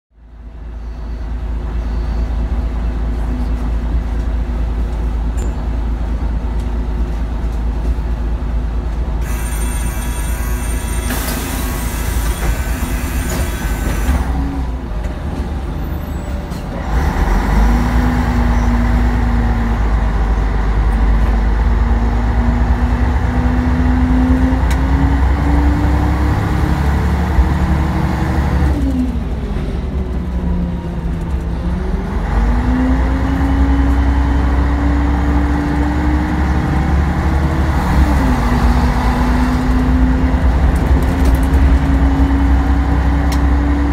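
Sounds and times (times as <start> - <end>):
bus engine: 0.1 - 43.9.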